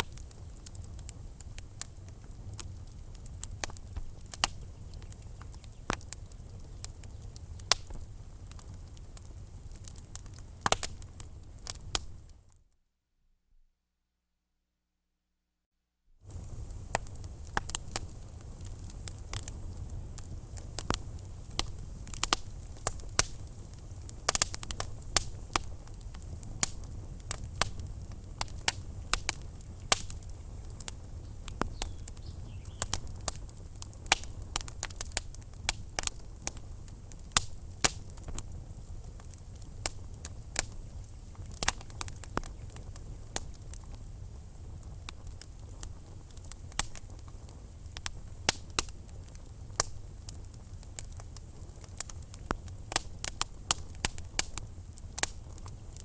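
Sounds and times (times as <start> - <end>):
fire crackling with pops: 0.0 - 12.6, 16.2 - 56.0
low rumble and hiss of fire: 0.0 - 12.6, 16.2 - 56.0.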